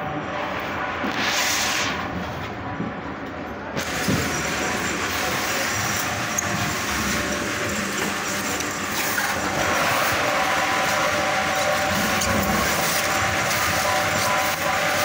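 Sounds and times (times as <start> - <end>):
busy loading floor din: 0.0 - 15.0.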